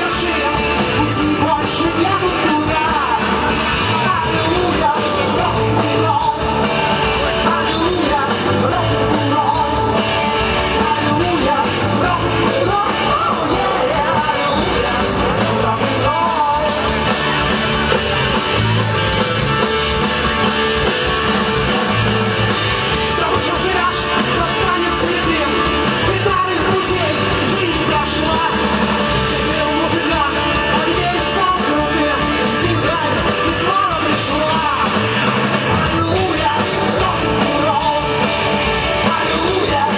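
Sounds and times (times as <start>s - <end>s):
person singing: 0.0s - 17.6s, 22.9s - 39.9s
driving bass beat: 0.0s - 39.9s
rock band playing: 0.0s - 39.9s.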